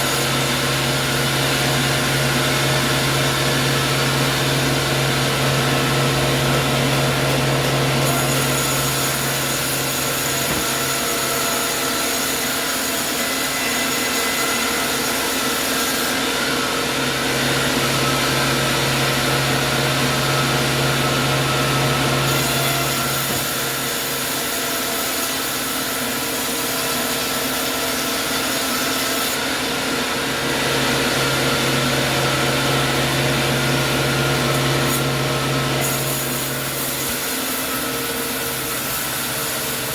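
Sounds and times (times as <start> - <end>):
saw rasping through log: 0.0 - 39.9
sawmill saw whining: 0.0 - 39.9.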